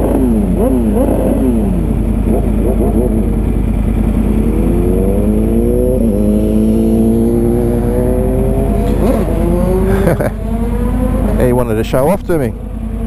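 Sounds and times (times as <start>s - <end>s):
car engine accelerating: 0.0s - 13.0s
motorcycle idling rumble: 0.0s - 13.0s.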